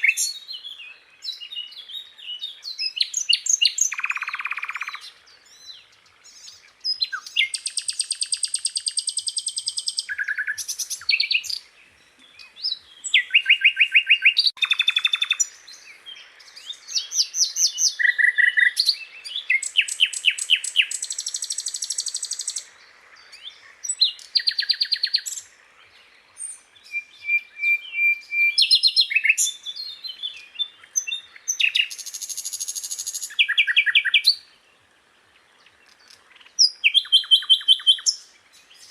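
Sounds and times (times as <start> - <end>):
small bird singing trills: 0.0 - 38.9.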